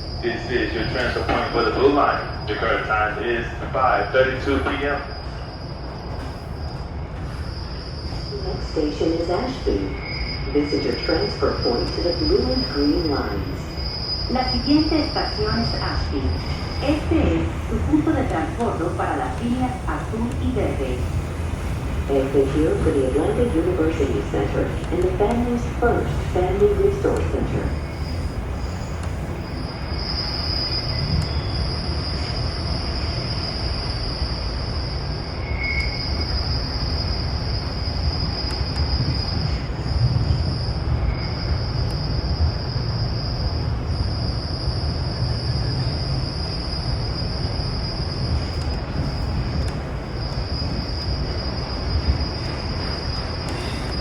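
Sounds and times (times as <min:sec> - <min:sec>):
high-pitched train whine: 0:00.0 - 0:54.0
train rumble: 0:00.0 - 0:54.0.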